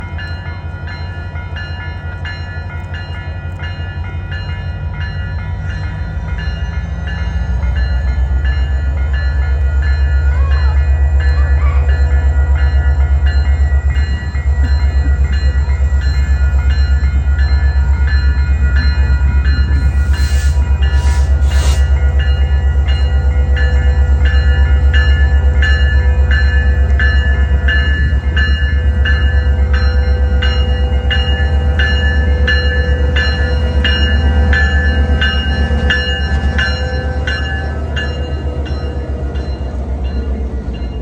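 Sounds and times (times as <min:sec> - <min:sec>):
diesel locomotive engines rumbling: 0:00.0 - 0:41.0.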